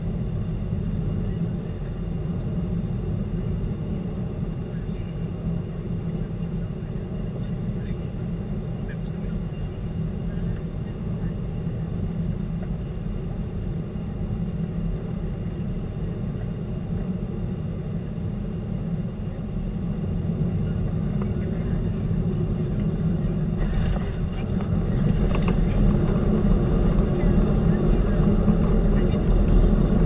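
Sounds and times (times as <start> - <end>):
jet engine and airflow rumble: 0.0 - 30.0.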